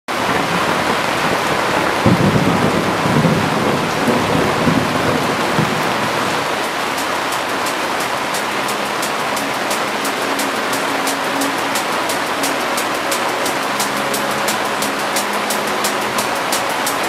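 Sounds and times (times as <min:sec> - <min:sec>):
heavy rain hissing: 0:00.1 - 0:17.0.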